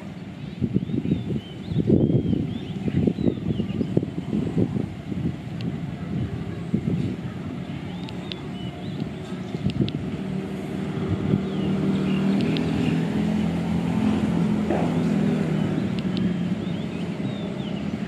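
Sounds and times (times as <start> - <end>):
diesel train engine humming: 0.0 - 18.0.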